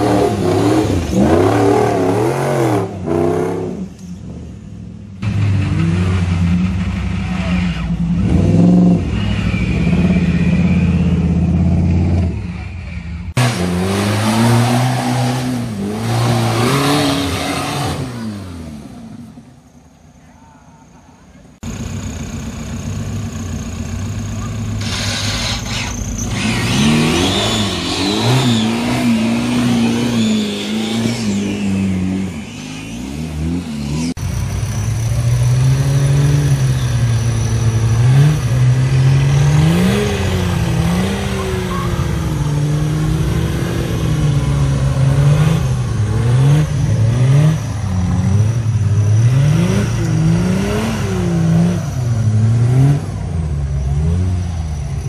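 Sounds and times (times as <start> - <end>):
deeper engine revving: 0.0 - 19.5, 23.0 - 55.0
buggy engine revving: 0.0 - 19.6, 21.6 - 55.0.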